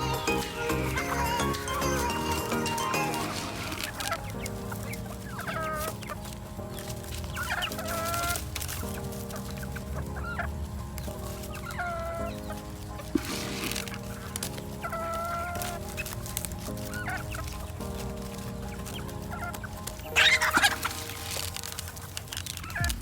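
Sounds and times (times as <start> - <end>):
chickens clucking and calling: 0.0 - 22.9
background music: 0.0 - 23.0.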